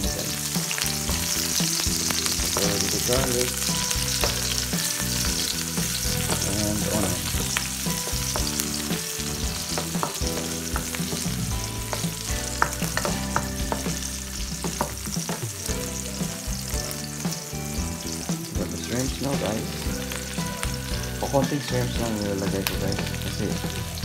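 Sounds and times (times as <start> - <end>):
onion and garlic sizzling in oil: 0.0 - 24.0.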